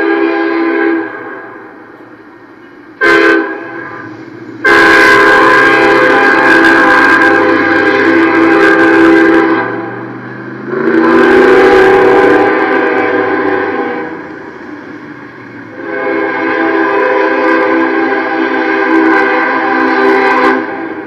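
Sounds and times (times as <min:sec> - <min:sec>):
locomotive air horn blasts: 0:00.0 - 0:01.8, 0:03.0 - 0:15.0, 0:15.6 - 0:21.0.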